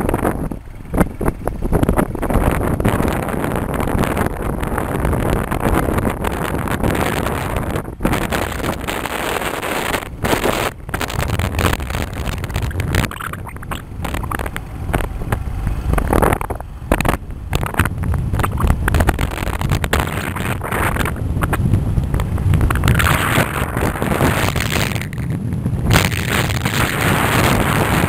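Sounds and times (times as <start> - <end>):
engine and road rumble: 0.0 - 28.0
wind buffeting microphone: 0.0 - 28.0.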